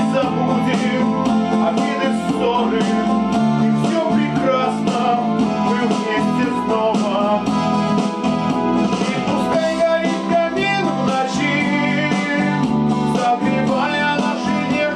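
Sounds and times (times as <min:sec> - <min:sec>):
strummed guitar: 0:00.0 - 0:14.9
sustained backing chords: 0:00.0 - 0:14.9.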